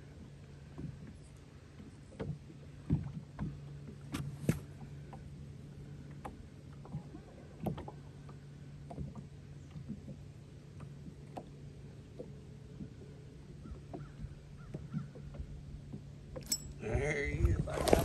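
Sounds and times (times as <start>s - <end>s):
waves slapping against boat hull: 0.0s - 16.5s, 17.2s - 18.0s.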